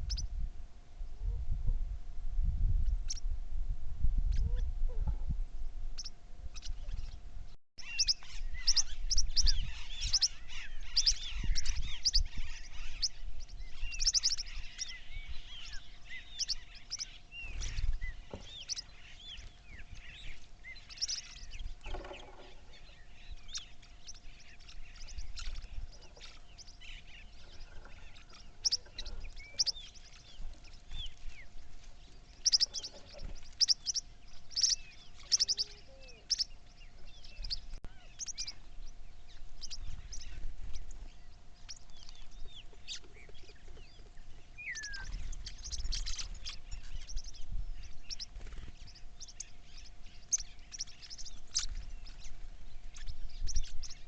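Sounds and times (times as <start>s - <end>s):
small birds chirping and twittering: 0.0s - 0.3s, 2.8s - 3.3s, 6.0s - 54.0s
faint steady hum: 0.0s - 54.0s.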